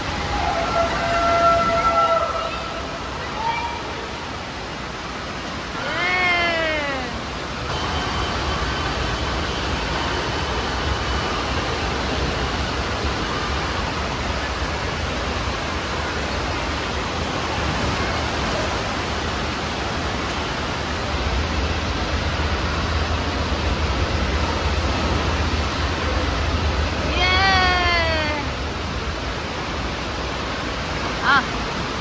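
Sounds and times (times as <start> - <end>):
falling and splashing water: 0.0 - 32.0.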